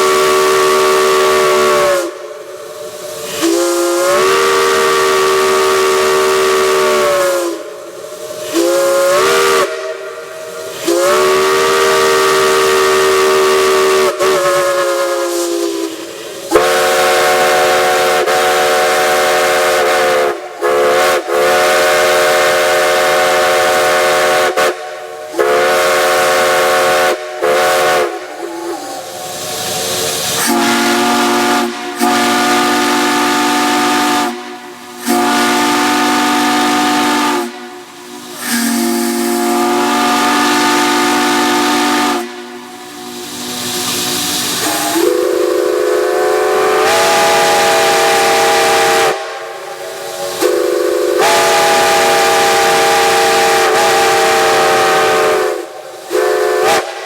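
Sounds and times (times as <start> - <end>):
steam chime whistles: 0.0 - 57.0
steam hissing: 0.0 - 57.0.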